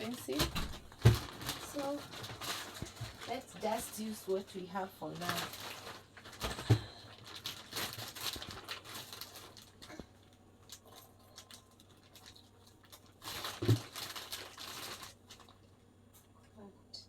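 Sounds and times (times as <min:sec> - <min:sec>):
plastic packaging rustling: 0:00.0 - 0:16.3.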